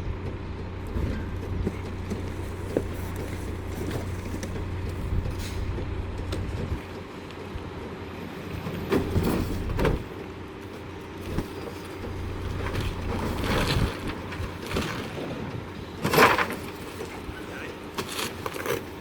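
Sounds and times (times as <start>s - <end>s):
garbage truck diesel engine: 0.0s - 19.0s.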